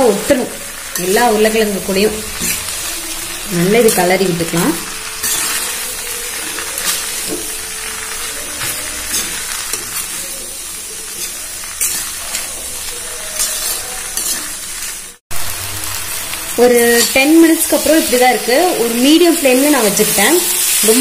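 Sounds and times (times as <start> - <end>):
potatoes sizzling in oil: 0.0 - 21.0.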